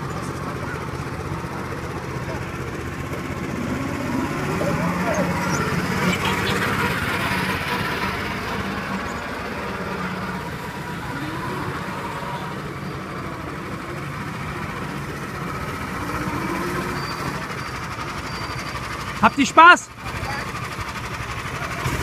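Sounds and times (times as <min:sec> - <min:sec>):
small car engine running: 0:00.0 - 0:22.0.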